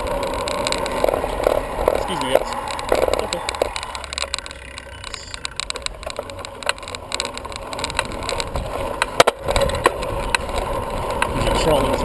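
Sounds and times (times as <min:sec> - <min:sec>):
bicycle rattling clicks: 0:00.0 - 0:12.0
wind rumble on microphone: 0:00.0 - 0:12.0.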